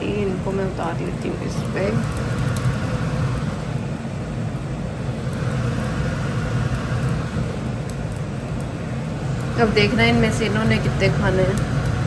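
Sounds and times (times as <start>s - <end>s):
low droning machinery hum: 0.0s - 12.0s.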